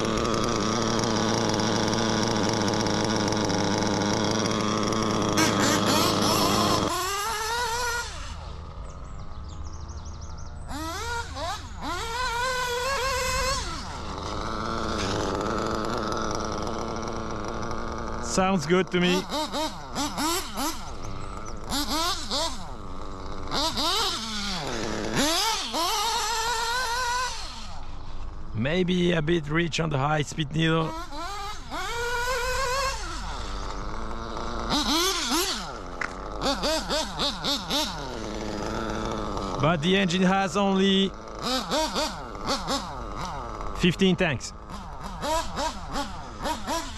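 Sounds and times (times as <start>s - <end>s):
nitro engine revving: 0.0s - 46.9s.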